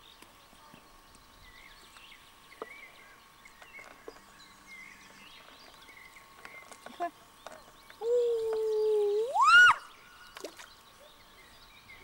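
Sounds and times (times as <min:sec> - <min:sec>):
faint birdsong chirping: 0:00.0 - 0:12.0.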